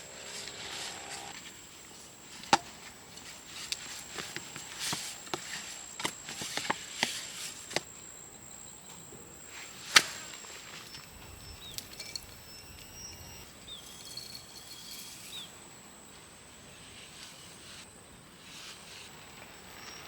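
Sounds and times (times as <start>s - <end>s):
high insect whine: 0.0s - 20.0s
faint chirping calls: 3.2s - 20.0s.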